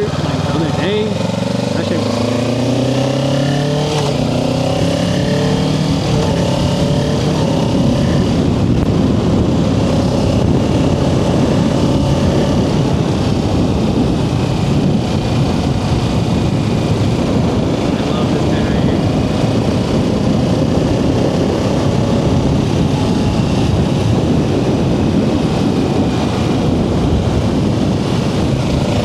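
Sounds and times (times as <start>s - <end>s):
motorcycle engine accelerating: 0.0s - 29.0s
wind noise over microphone: 0.0s - 29.0s.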